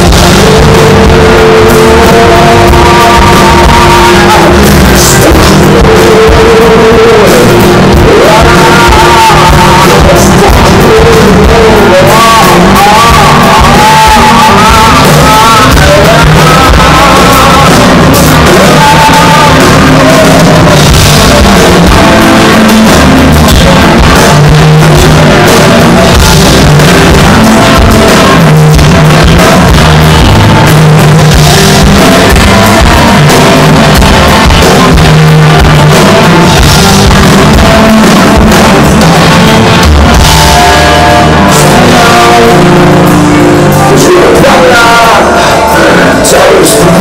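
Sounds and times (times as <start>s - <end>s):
live rock band playing: 0.0s - 47.0s
person singing: 0.0s - 47.0s.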